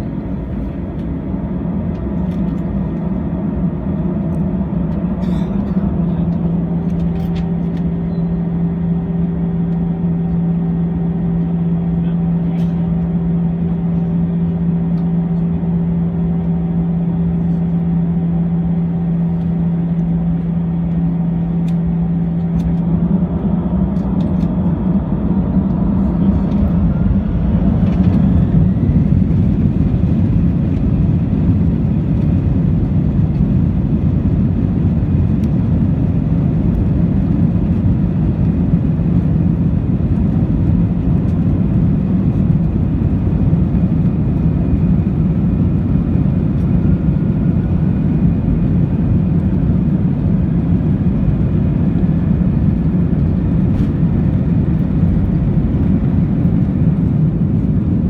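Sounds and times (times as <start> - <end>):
jet engine whine: 0.0 - 58.0
jet engines rumbling in cabin: 0.0 - 58.0.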